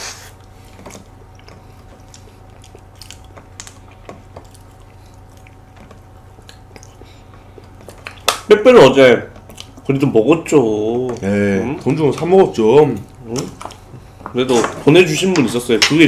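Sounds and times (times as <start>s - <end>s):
chewing soft cake: 0.0s - 15.8s.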